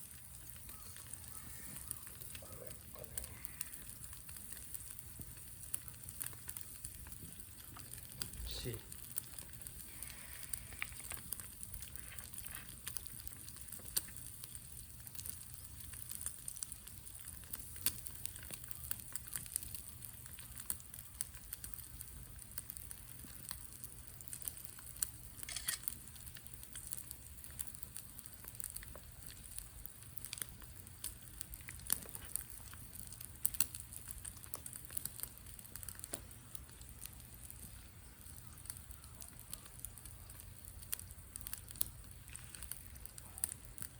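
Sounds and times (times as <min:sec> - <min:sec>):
fire popping: 0:00.0 - 0:43.9
wood fire crackling: 0:00.0 - 0:43.9.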